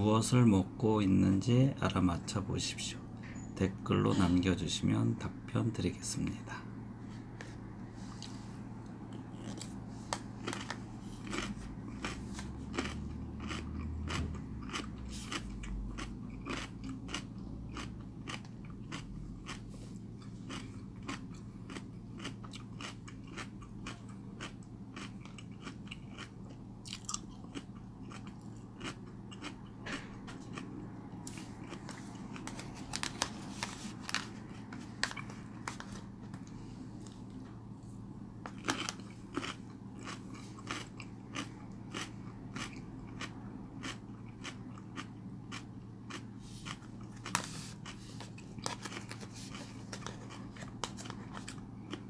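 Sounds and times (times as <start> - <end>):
low steady hum: 0.0 - 52.0
man chewing and crunching: 8.1 - 37.6, 38.4 - 52.0.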